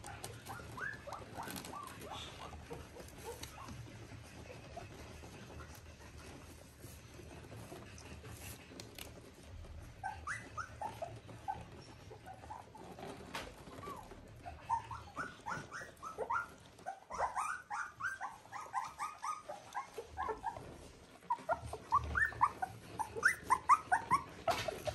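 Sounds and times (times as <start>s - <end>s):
puppies whimpering and squeaking: 0.0s - 24.9s.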